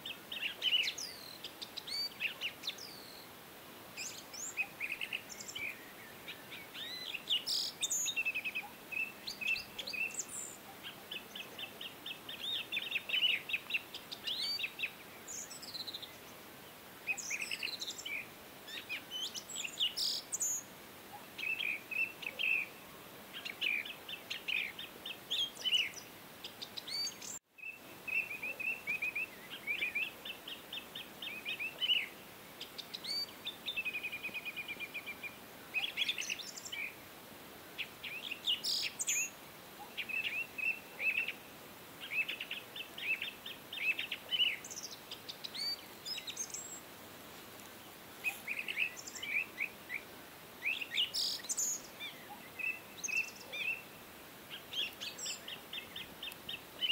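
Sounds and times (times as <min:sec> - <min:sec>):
small birds chirping: 0:00.0 - 0:37.1, 0:37.7 - 0:56.9.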